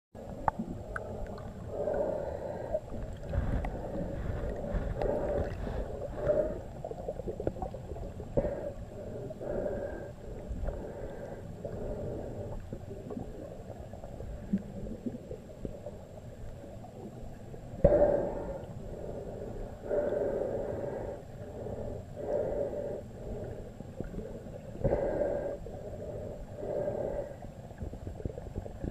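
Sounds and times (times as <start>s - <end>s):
muffled underwater water sloshing: 0.2s - 28.9s.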